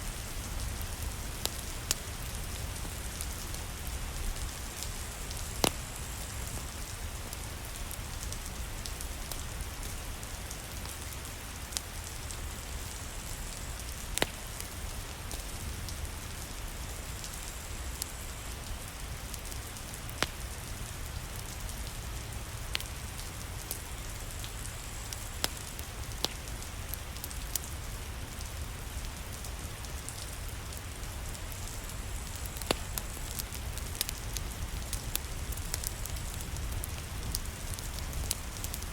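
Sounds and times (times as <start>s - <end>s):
rain falling: 0.0s - 38.9s
wood fire crackling: 0.0s - 38.9s.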